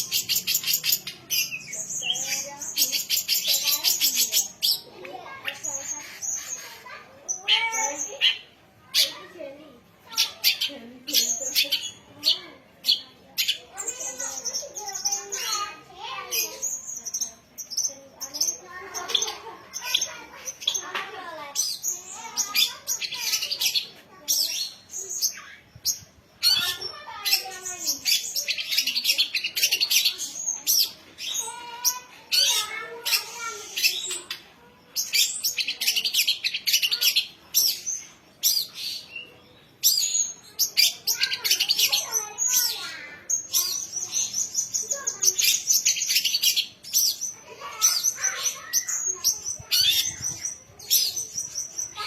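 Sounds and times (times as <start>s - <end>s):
bird singing varied song: 0.0s - 52.0s.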